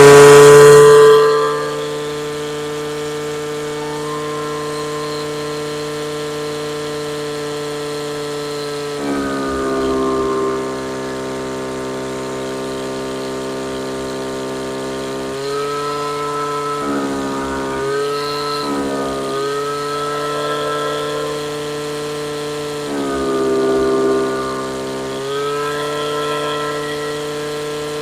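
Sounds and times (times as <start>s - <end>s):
string trimmer engine running: 0.0s - 28.0s.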